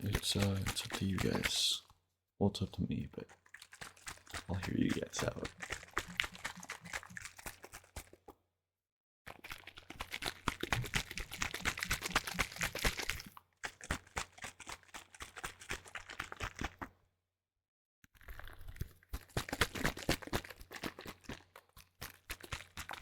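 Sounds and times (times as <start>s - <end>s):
liquid sloshing in shaken bottle: 0.0s - 1.9s, 2.7s - 8.4s, 9.3s - 16.9s, 18.2s - 23.0s.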